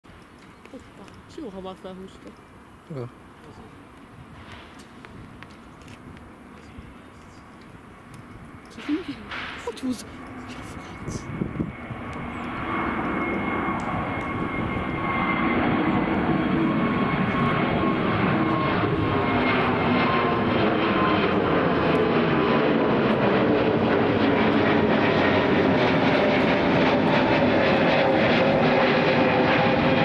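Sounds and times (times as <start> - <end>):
jet engines rumbling and whining: 0.1 - 30.0.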